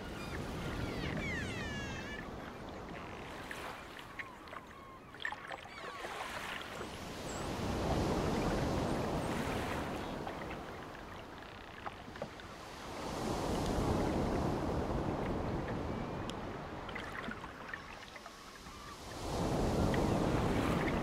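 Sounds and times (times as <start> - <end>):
ocean water washing: 0.0 - 21.0.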